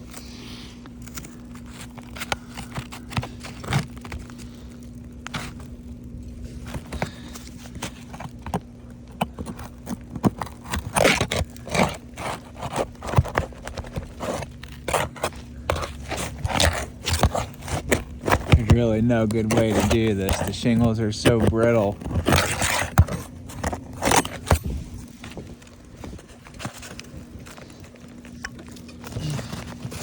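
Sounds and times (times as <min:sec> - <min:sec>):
scraping and cracking of roof shingles: 0:00.9 - 0:30.0.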